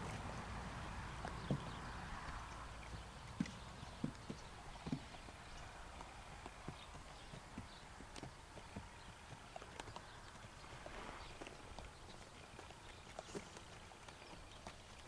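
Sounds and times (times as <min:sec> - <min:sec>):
hoofbeats on soft dirt: 0:00.0 - 0:15.0.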